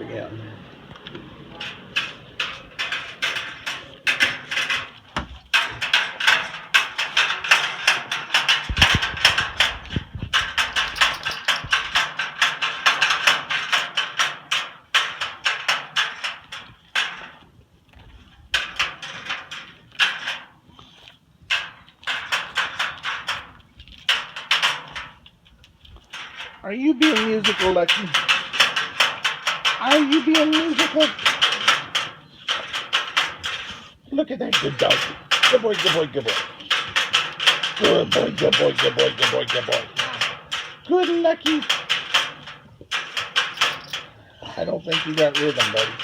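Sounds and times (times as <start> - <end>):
dog rapid tapping and clicking: 1.6 - 17.4, 18.1 - 33.8, 34.5 - 46.0.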